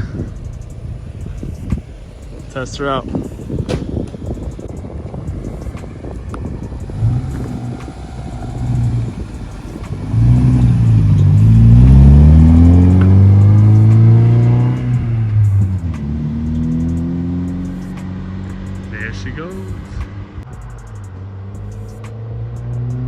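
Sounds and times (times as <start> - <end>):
truck engine accelerating: 0.0 - 22.1.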